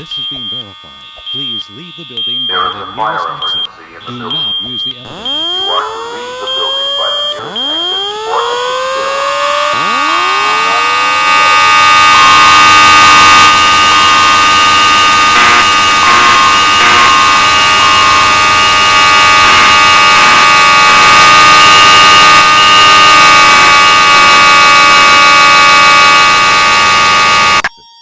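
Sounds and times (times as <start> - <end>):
voice evacuation messages: 0.0 - 24.7
fire alarm buzzing tone: 0.0 - 28.0.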